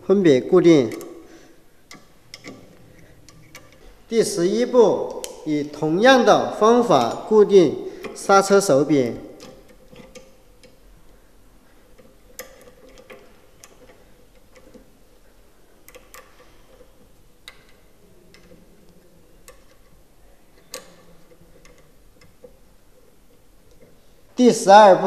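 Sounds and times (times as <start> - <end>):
hex key metal clicks: 0.8 - 4.4, 5.0 - 24.0.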